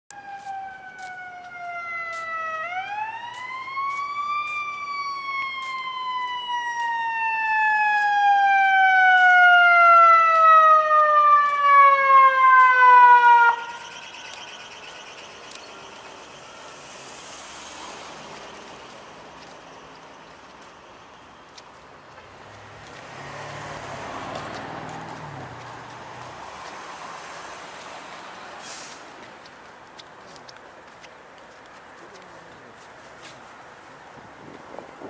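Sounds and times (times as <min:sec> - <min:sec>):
fire engine siren wailing: 0:00.1 - 0:29.2
traffic noise: 0:00.1 - 0:35.0.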